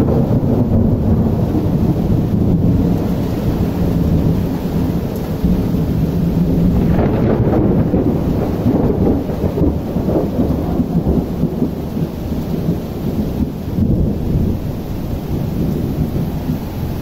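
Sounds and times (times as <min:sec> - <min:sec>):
rain: 0:00.0 - 0:17.0
storm wind: 0:00.0 - 0:17.0.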